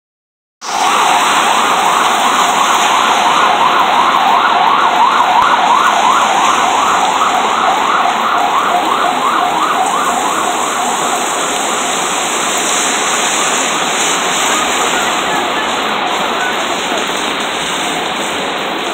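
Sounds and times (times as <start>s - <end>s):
siren yelping: 0.6s - 18.2s
heavy rain pouring: 0.6s - 18.9s.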